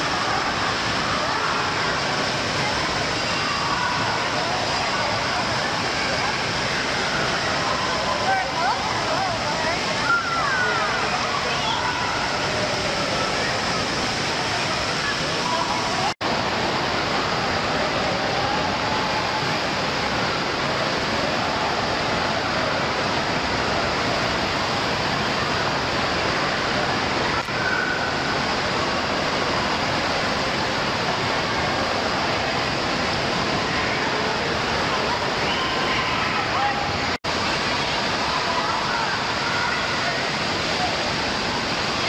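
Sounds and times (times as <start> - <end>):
faint voices: 0.0 - 42.0
water rushing and splashing: 0.0 - 42.0.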